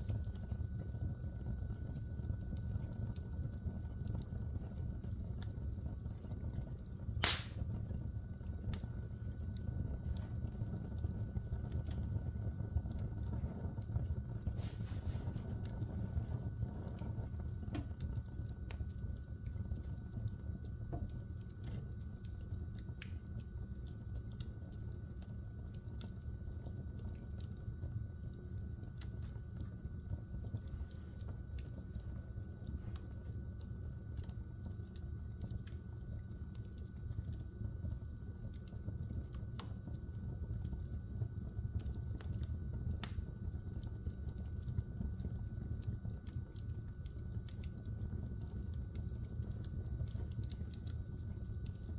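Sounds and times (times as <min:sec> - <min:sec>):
fire popping and snapping: 0:00.0 - 0:51.9
logs crackling in fireplace: 0:00.0 - 0:51.9.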